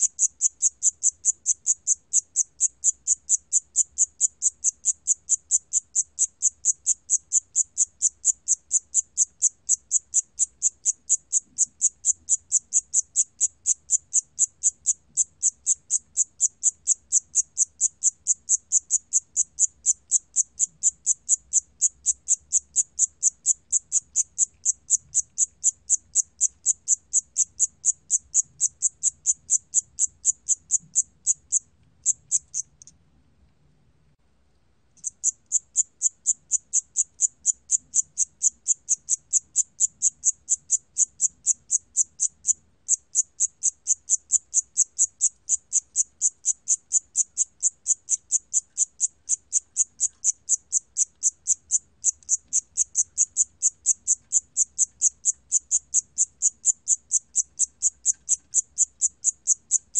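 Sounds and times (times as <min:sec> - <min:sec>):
cricket chirping: 0:00.0 - 0:32.9, 0:35.0 - 0:59.9.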